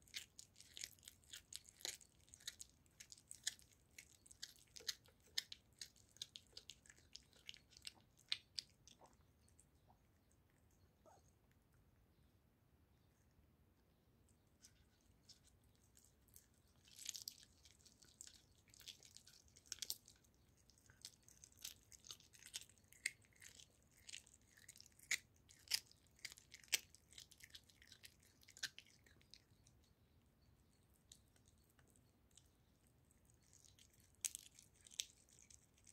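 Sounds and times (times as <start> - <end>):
cat crunching meat and bone: 0.0 - 11.7, 14.5 - 30.0, 30.9 - 35.9.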